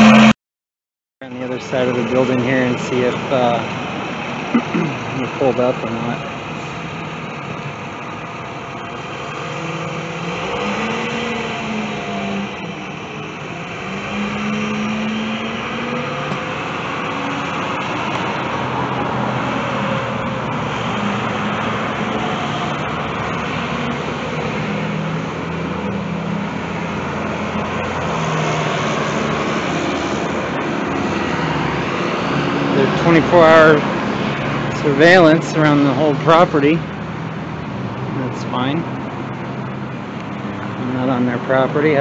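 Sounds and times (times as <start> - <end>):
vehicles driving on road: 0.0 - 0.4, 1.2 - 42.0.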